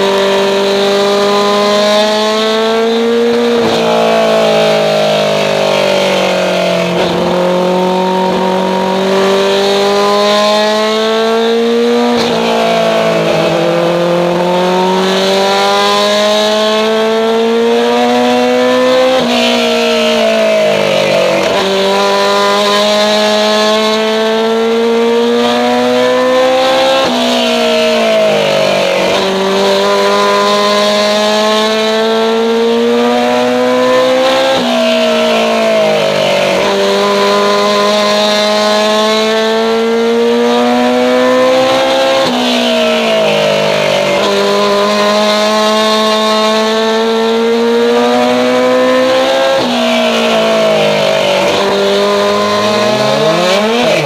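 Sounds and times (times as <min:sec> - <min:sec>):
race car engine at speed: 0:00.0 - 0:54.0.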